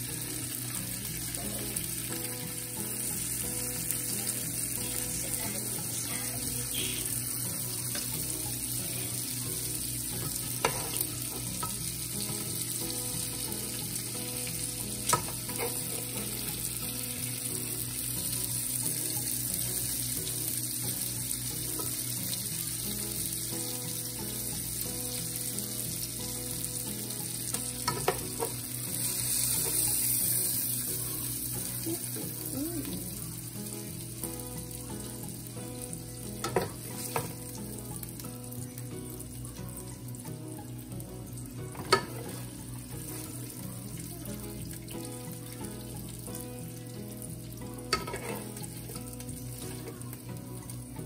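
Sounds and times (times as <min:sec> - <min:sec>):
food sizzling in a pan: 0:00.0 - 0:51.0.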